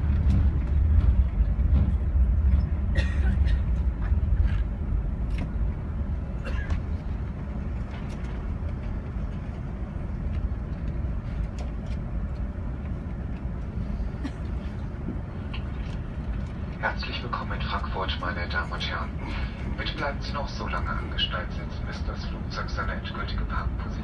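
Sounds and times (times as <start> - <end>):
aircraft cabin low rumble: 0.0 - 24.0.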